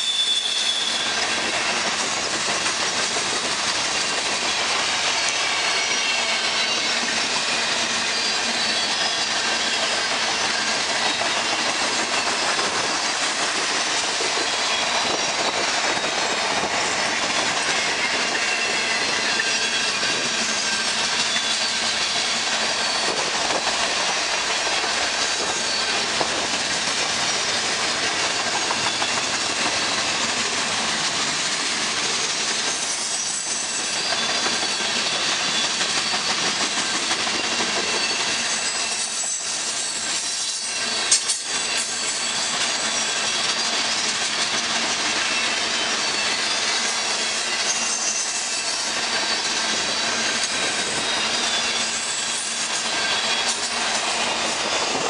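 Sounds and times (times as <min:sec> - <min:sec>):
freight train wheels rattling: 0:00.0 - 0:55.0.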